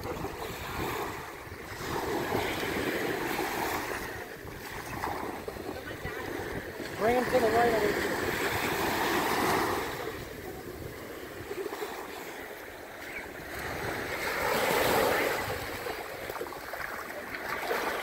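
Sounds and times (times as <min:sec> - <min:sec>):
small waves breaking on beach: 0:00.0 - 0:18.0.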